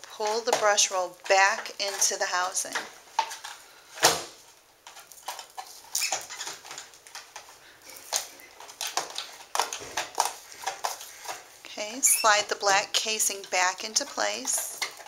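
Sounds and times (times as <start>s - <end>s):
plastic parts clicking and knocking: 0.0s - 15.0s.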